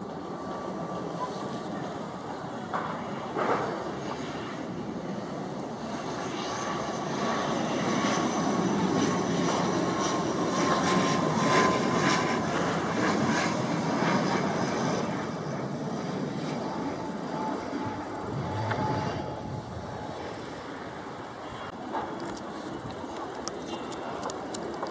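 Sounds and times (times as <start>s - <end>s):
turboprop airliner droning overhead: 0.0s - 24.9s.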